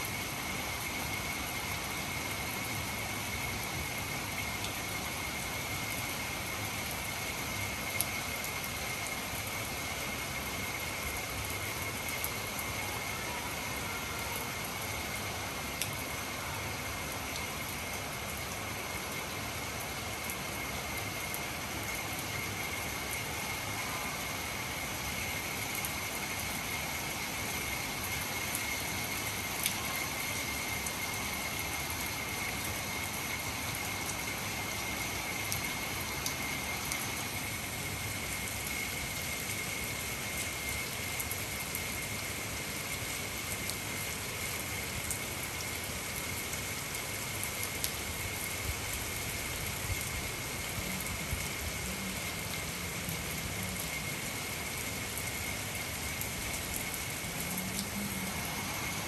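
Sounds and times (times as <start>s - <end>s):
rain on a tiled roof: 0.0s - 59.0s.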